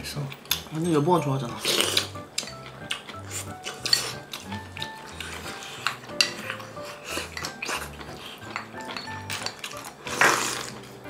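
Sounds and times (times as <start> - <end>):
cutlery clinking on dishes: 1.7 - 10.9.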